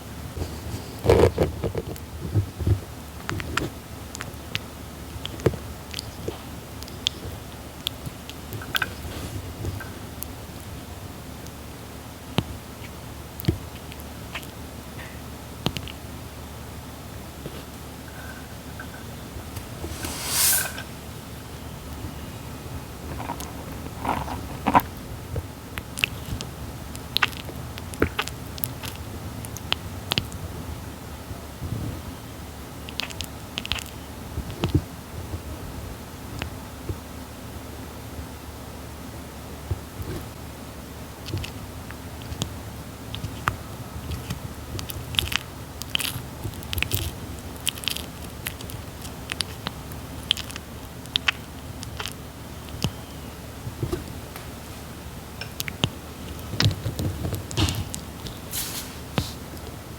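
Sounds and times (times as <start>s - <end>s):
tortoise chewing fruit: 0.3s - 37.3s, 38.0s - 59.9s.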